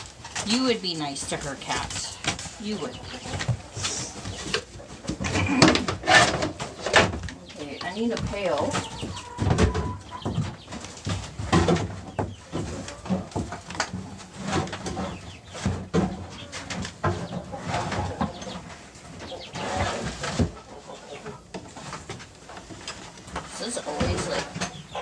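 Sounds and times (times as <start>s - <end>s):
chickens clucking: 0.0s - 25.0s
stacked pails clattering: 0.0s - 25.0s.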